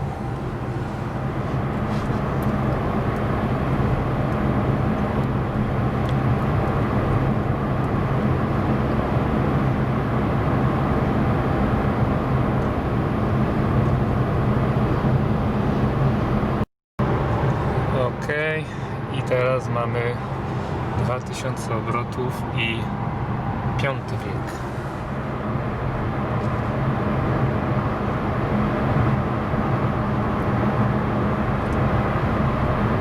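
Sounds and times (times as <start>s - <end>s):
tyre and road noise: 0.0s - 29.2s
low engine drone: 0.0s - 33.0s.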